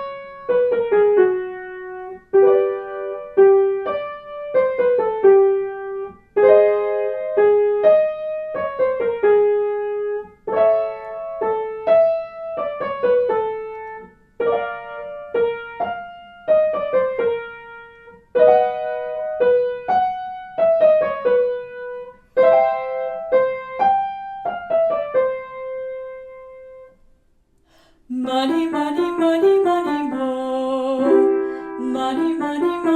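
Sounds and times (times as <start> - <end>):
piano phrases: 0.0 - 32.9.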